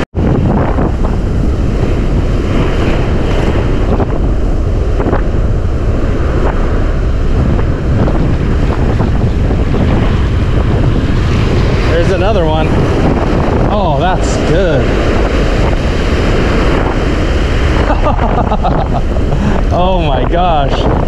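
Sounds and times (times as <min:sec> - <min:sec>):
ocean surf washing up: 0:00.0 - 0:21.0
wind buffeting microphone: 0:00.0 - 0:21.0.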